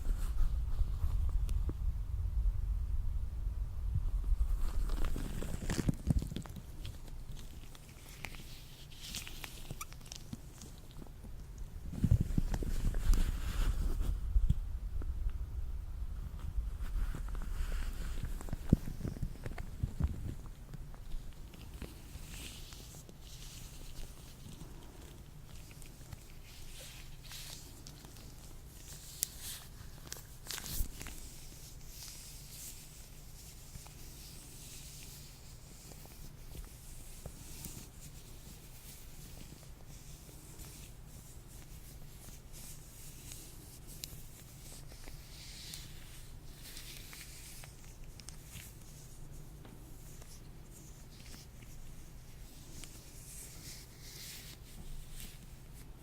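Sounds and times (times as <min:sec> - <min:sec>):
latex gloves rustling and squeaking: 0:04.5 - 0:14.2, 0:16.8 - 0:56.0.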